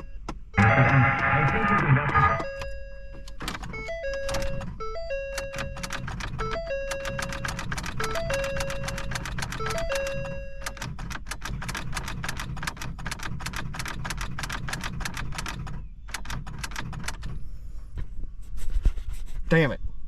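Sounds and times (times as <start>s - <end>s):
car starter cranking engine: 0.6s - 17.4s.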